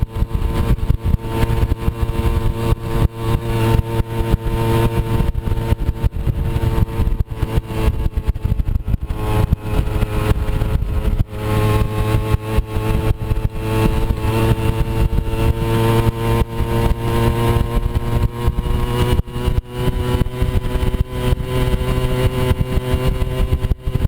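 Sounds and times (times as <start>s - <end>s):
scooter engine running: 0.0s - 24.0s.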